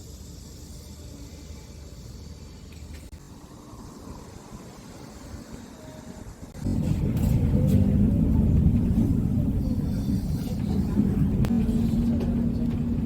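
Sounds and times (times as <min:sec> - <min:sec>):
moving vehicle rumble: 0:00.1 - 0:13.0.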